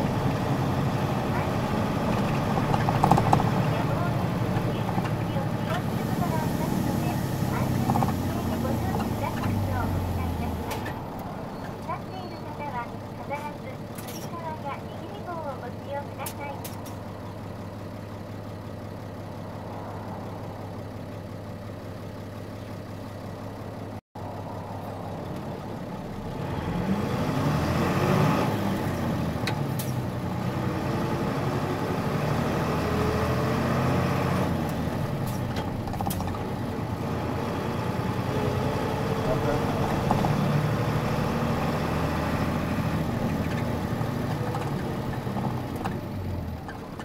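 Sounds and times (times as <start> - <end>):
bus diesel engine: 0.0 - 47.0.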